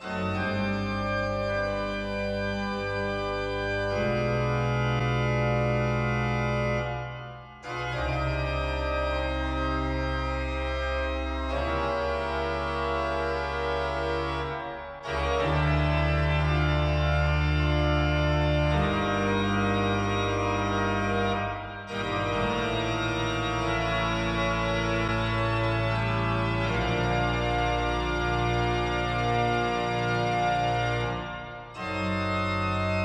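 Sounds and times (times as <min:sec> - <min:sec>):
organ music over loudspeakers: 0:00.0 - 0:33.0.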